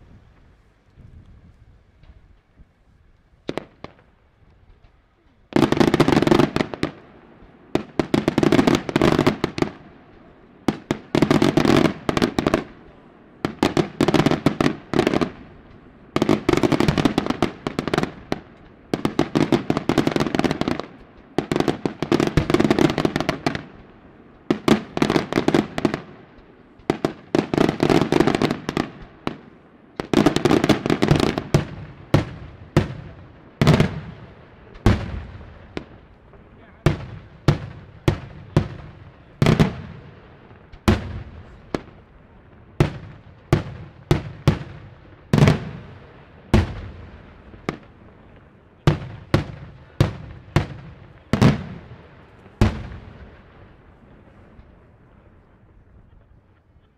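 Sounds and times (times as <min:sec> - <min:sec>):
fireworks bangs and crackling: 0:00.0 - 0:56.8.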